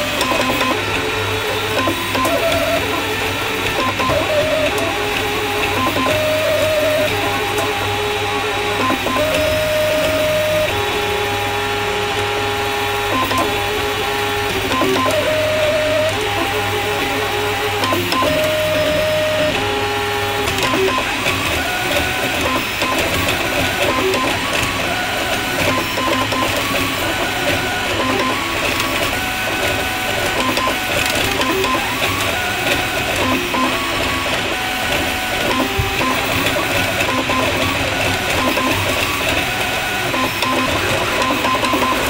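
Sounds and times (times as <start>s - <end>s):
stepper motors whirring: 0.0s - 42.0s.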